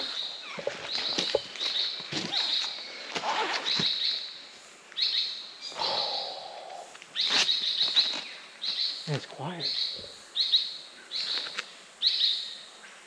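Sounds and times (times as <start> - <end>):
birds chirping: 0.0 - 12.7.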